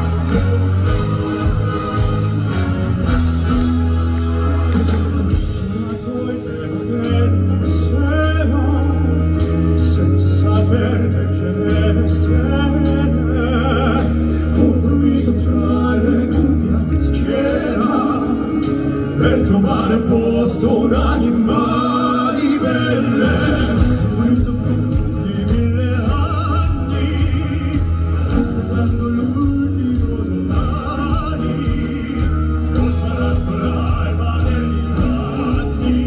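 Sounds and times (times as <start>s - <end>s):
backing band with bass and drums: 0.0s - 36.0s
male vocal group singing operatic ballad: 5.0s - 36.0s.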